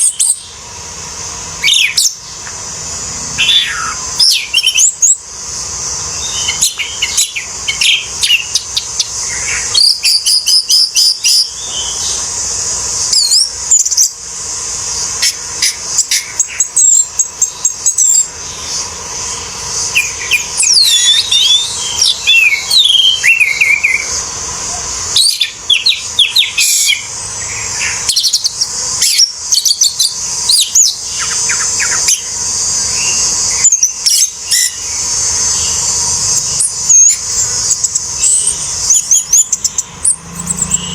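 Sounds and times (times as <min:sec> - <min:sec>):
steady high hiss: 0:00.0 - 0:40.9
thrush singing: 0:00.0 - 0:40.9.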